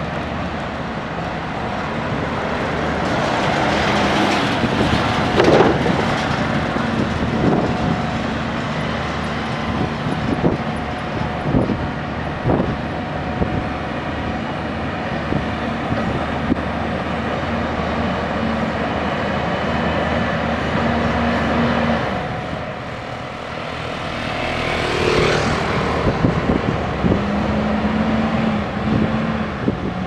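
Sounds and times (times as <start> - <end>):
diesel engine running: 0.0 - 19.4, 20.4 - 29.8.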